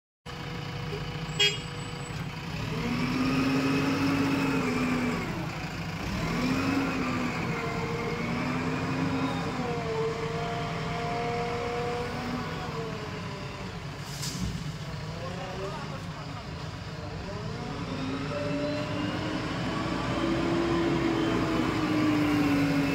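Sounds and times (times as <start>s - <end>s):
diesel engine revving: 0.3s - 22.9s.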